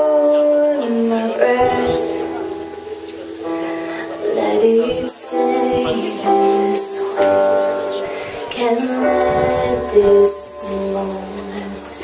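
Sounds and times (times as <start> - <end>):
woman singing: 0.0 - 2.7, 3.5 - 12.0
electronic keyboard: 0.0 - 12.0.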